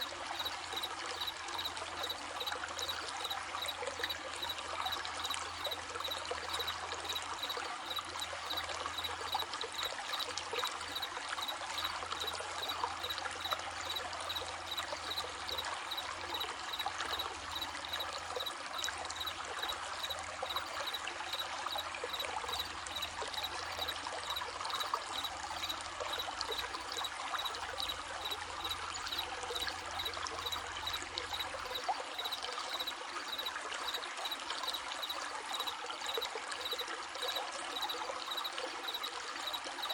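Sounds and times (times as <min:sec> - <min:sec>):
crickets chirping: 0:00.0 - 0:39.9
stream babbling over stones: 0:00.0 - 0:39.9.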